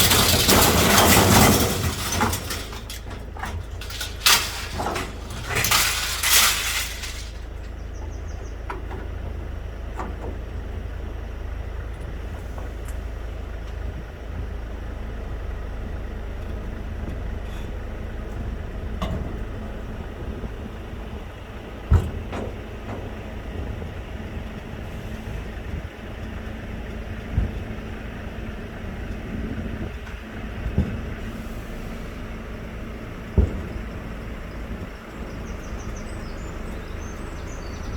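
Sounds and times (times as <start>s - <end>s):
vehicle engine idling: 0.0s - 37.9s.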